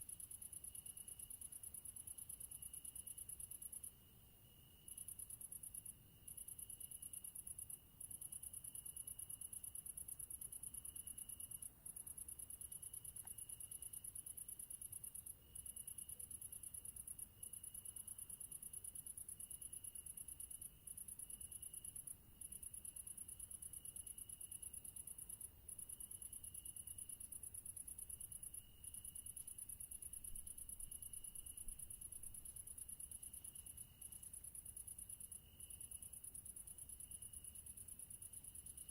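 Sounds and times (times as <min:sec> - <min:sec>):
softer pulsing insect song: 0:00.0 - 0:38.9.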